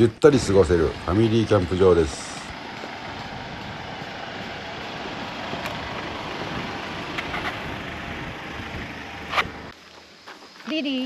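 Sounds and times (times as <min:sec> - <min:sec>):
car rumbling on the move: 0:00.0 - 0:09.8.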